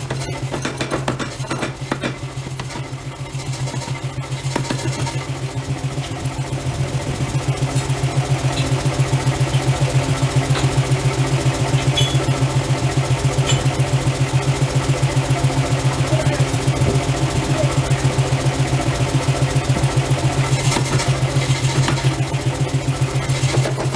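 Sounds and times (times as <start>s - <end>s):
forge machinery throbbing: 0.0s - 23.9s.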